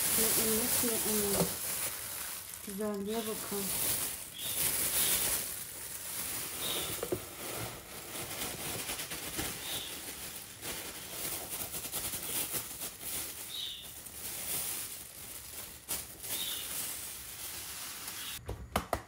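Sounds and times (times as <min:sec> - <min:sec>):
pepper flakes pattering into container: 0:00.0 - 0:18.4
plastic bag crinkling: 0:00.0 - 0:18.4.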